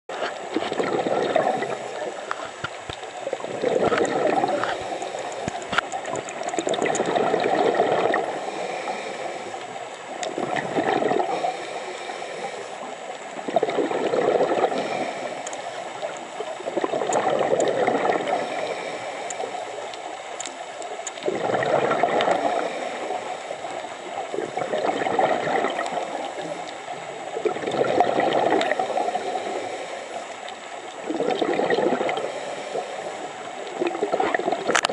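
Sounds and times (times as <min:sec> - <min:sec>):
underwater exhaust bubbles: 0:00.1 - 0:34.9.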